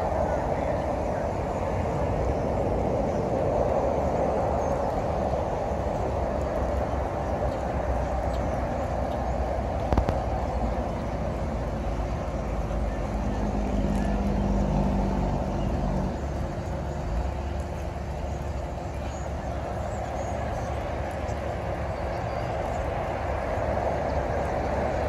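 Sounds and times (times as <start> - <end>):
trucks and traffic idling: 0.0 - 25.0.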